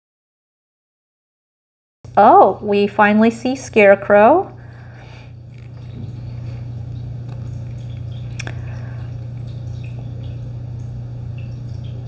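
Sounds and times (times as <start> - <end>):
low background hum: 2.1 - 12.0.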